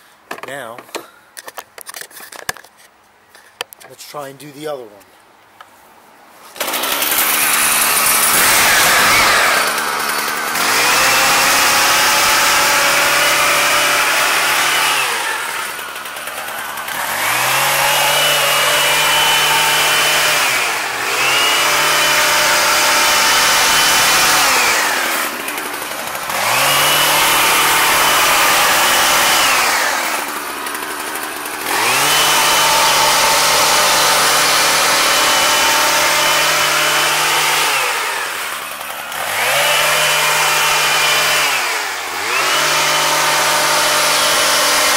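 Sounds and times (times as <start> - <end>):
hedge trimmer engine revving: 6.5 - 44.9.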